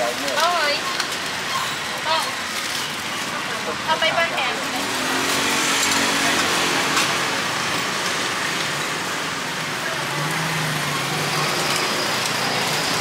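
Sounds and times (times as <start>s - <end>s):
motor traffic: 0.0s - 13.0s.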